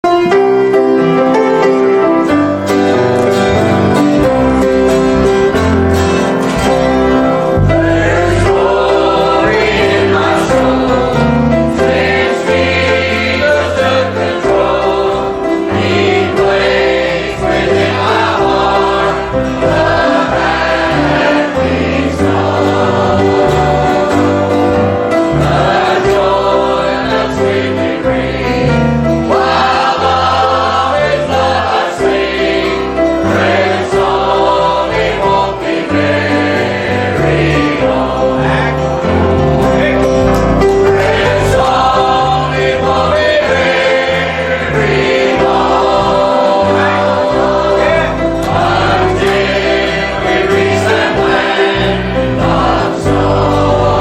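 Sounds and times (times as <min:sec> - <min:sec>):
keyboard accompaniment: 0:00.0 - 0:54.0
choir singing a gospel hymn: 0:00.1 - 0:54.0.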